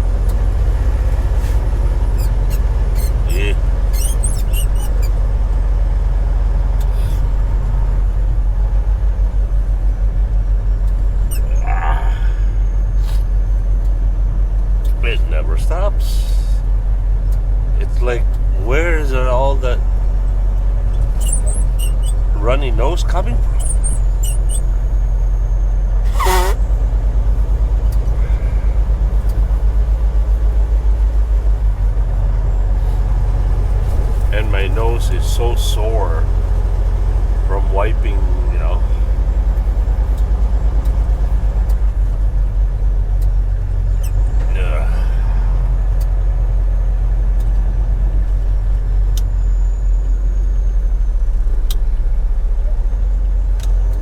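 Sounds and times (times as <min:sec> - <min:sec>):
truck engine drone and road noise: 0:00.0 - 0:54.0.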